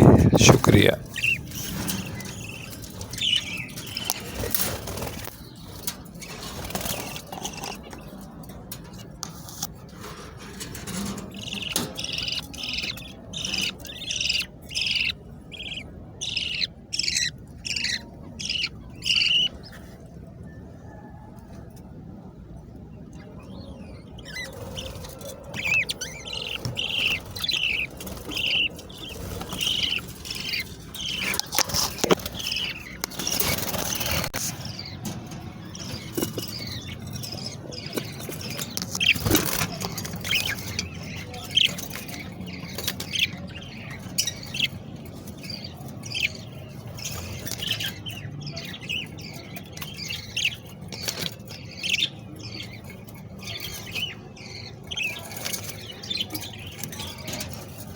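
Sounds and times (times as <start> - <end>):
budgerigar chicks chirping: 0.0 - 19.9, 23.2 - 57.9.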